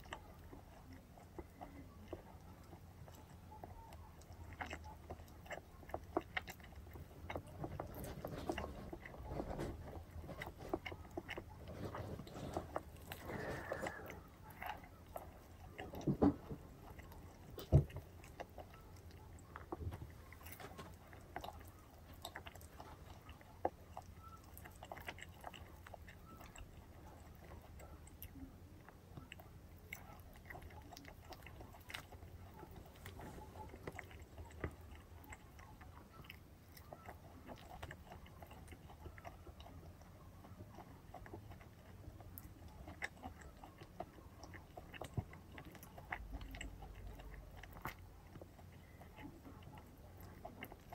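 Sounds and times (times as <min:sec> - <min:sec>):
crispy chicken crackling: 0:00.0 - 0:50.9
quiet chewing: 0:00.0 - 0:50.9.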